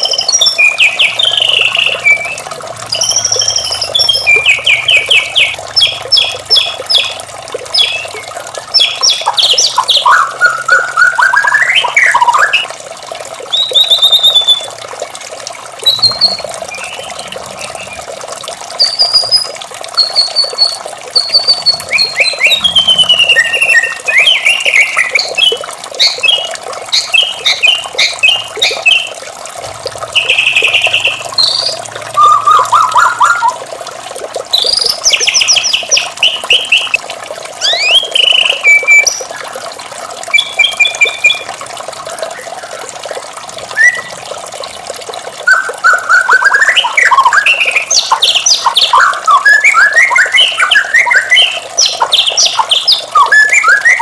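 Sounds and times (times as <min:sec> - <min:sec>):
bird singing whistled phrases: 0:00.0 - 0:07.1, 0:07.8 - 0:12.7, 0:13.5 - 0:14.7, 0:15.8 - 0:18.0, 0:18.8 - 0:29.1, 0:30.2 - 0:33.6, 0:34.6 - 0:37.0, 0:37.6 - 0:39.4, 0:40.3 - 0:41.5, 0:43.7 - 0:44.2, 0:45.4 - 0:54.0.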